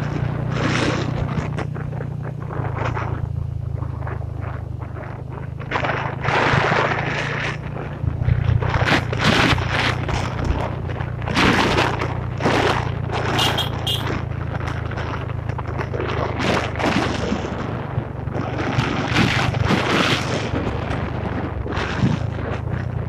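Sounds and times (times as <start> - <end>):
motorbike engine drone: 0.0 - 23.0
wind buffeting microphone: 0.0 - 23.0.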